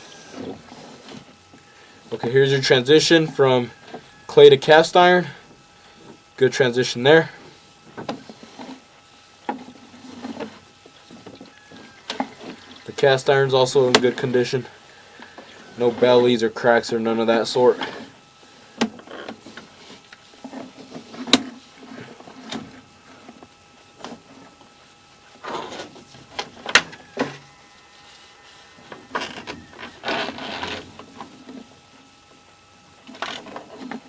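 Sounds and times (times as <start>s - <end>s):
scraping rustles: 0.0s - 5.1s, 7.3s - 34.0s
faint electronic whine: 0.0s - 34.0s.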